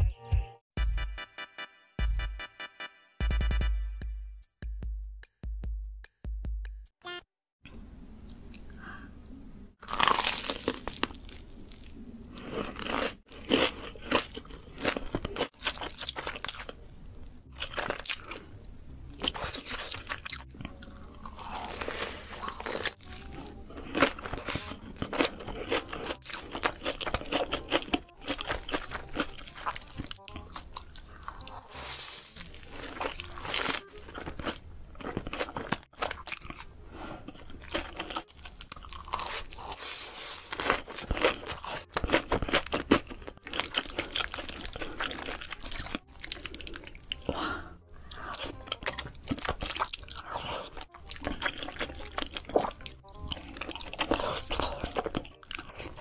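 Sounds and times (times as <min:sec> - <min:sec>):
crunching bites and chewing: 0:09.8 - 0:16.8, 0:17.4 - 0:18.5, 0:19.1 - 0:56.0.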